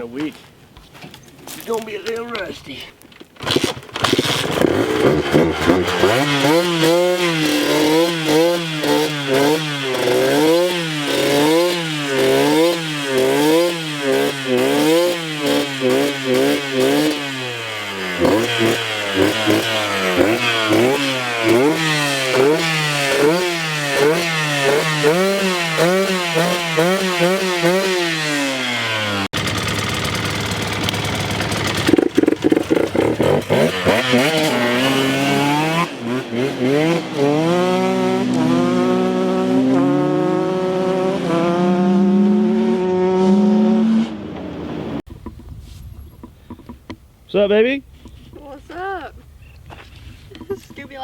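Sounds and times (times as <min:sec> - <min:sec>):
dirt bike engine revving: 0:03.4 - 0:45.1.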